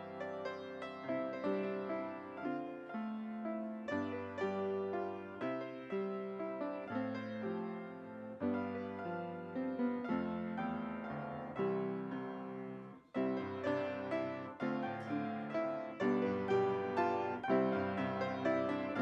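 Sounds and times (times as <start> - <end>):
piano chords ringing: 0.0 - 19.0.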